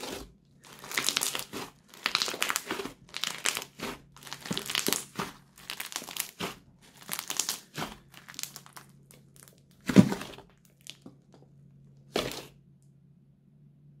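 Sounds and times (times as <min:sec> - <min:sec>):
crunchy slime crackling: 0:00.0 - 0:11.4, 0:12.0 - 0:12.6.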